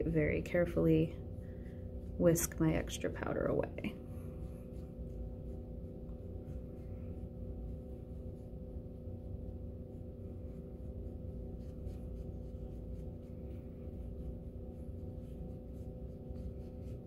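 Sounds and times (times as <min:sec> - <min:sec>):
powder brush strokes on skin: 0:00.0 - 0:17.0
steady low hum: 0:00.0 - 0:17.0.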